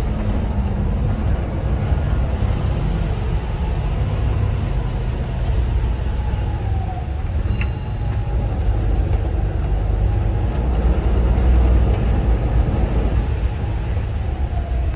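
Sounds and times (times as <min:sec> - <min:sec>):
bus diesel engine drone: 0:00.0 - 0:14.9
road rumble: 0:00.0 - 0:14.9.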